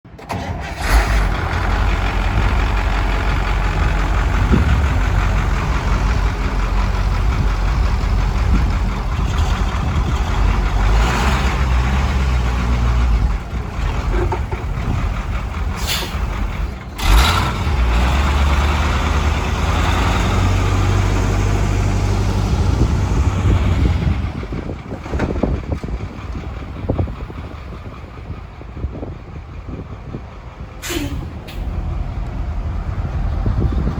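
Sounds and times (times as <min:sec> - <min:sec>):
truck engine rumbling: 0:00.0 - 0:33.9.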